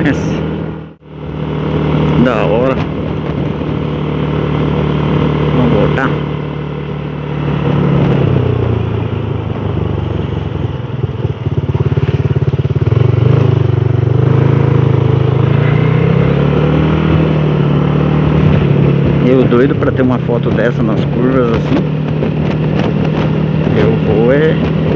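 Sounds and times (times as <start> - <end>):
motor scooter engine: 0.0 - 24.9.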